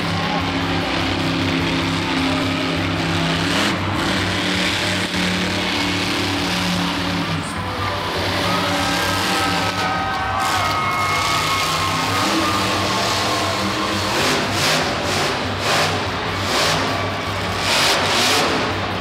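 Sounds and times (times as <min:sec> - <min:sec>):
arena crowd noise: 0:00.0 - 0:19.0
truck engine revving: 0:00.0 - 0:19.0.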